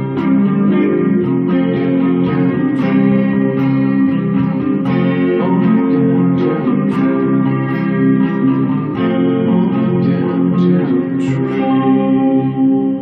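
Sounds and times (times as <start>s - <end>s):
plucked and strummed strings: 0.0s - 13.0s.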